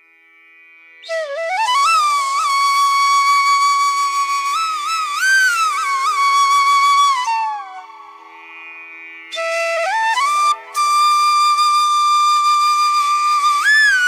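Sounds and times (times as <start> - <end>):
flute melody: 1.0 - 8.7, 9.3 - 14.0.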